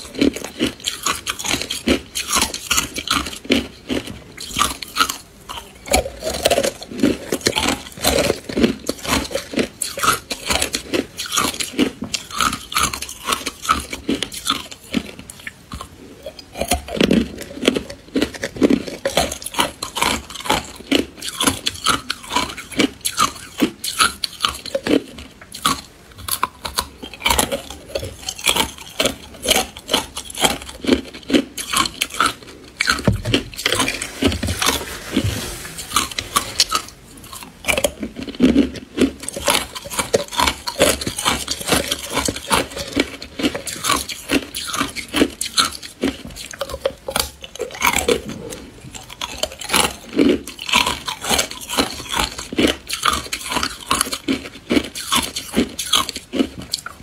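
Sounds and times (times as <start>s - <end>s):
frozen ice being bitten and chewed: 0.0s - 57.0s.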